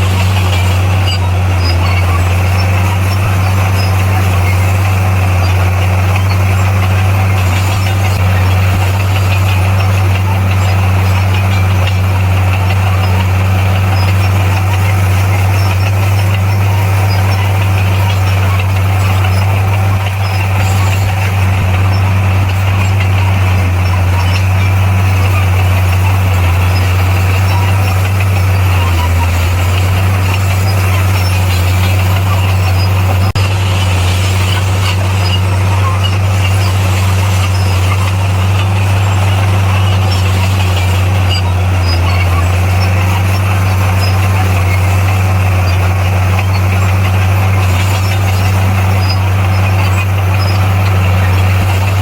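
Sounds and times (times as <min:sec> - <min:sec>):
bulldozer diesel engine drone: 0:00.0 - 0:52.0.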